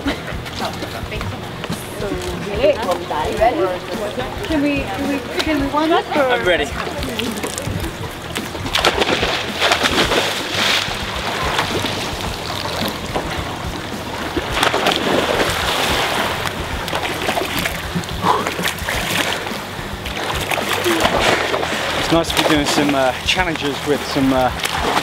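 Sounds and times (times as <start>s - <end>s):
pool water splashing: 0.0s - 25.0s.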